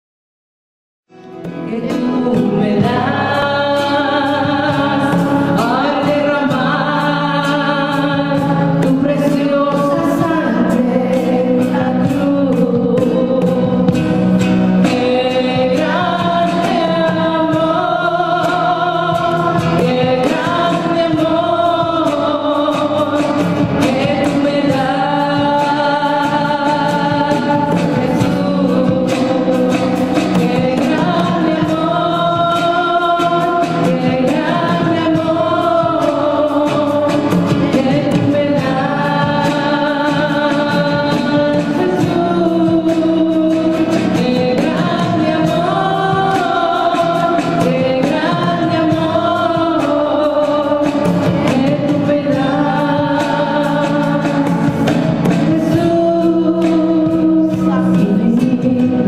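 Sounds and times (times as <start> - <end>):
acoustic guitar: 1.1 - 59.0
congas beat: 1.2 - 59.0
woman singing a hymn: 1.4 - 59.0.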